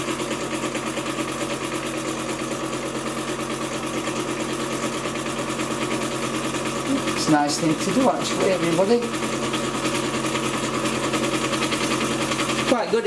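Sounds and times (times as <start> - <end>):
candyfloss machine motor humming: 0.0 - 13.0.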